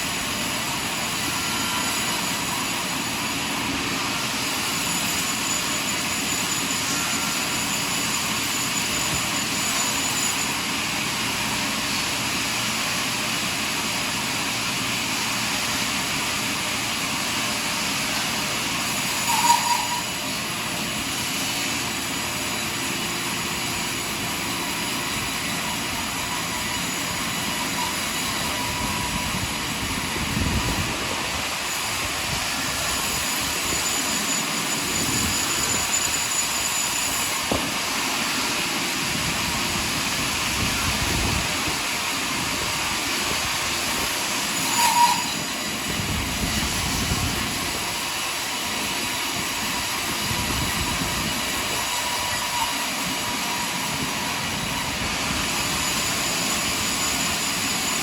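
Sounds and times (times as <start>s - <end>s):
sawmill sawing a log: 0.0s - 58.0s
saw screech: 0.3s - 12.9s, 16.2s - 58.0s.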